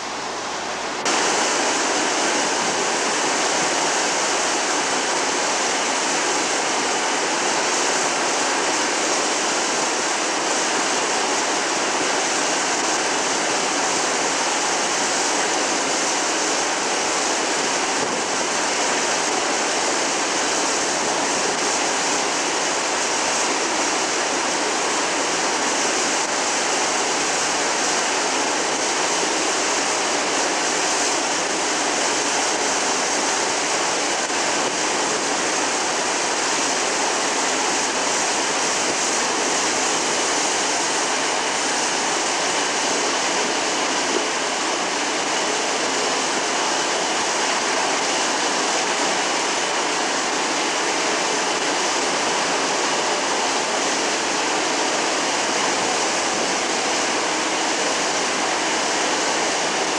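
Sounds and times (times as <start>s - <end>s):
water rushing down pool slide: 1.0s - 59.9s.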